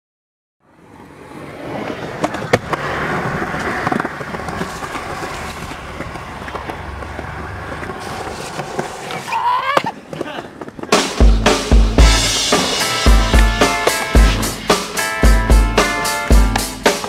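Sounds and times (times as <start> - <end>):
skateboard wheels rolling on concrete: 0.6 - 17.0
skateboard clacks: 1.5 - 17.0.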